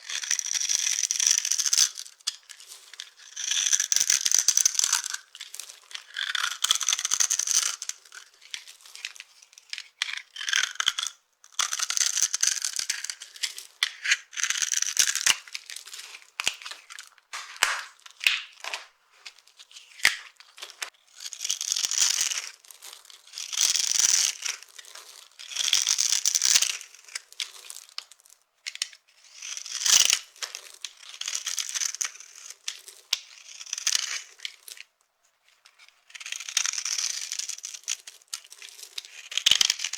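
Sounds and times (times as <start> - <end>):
dry soap crunching: 0.0 - 28.8, 29.4 - 34.8, 36.1 - 39.9.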